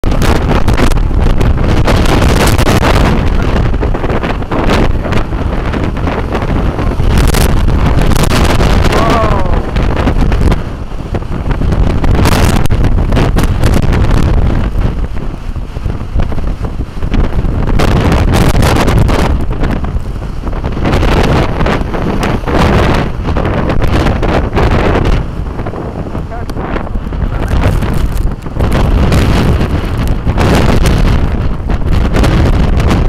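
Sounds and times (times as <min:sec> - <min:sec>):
strong gusting wind on microphone: 0:00.0 - 0:33.0.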